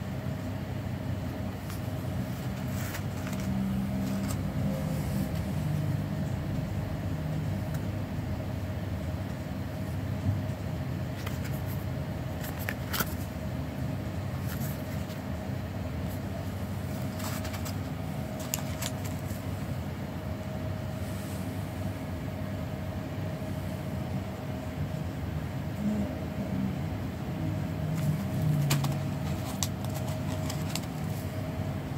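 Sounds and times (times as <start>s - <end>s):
faint steady hum: 0.0s - 31.9s
low background rumble: 0.0s - 31.9s.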